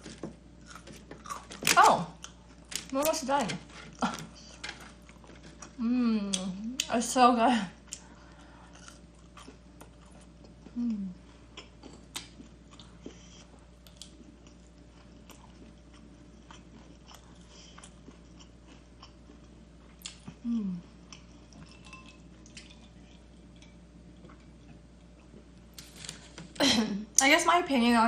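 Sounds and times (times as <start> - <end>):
crunchy chewing: 0.0 - 2.9, 3.6 - 6.4, 7.8 - 26.4.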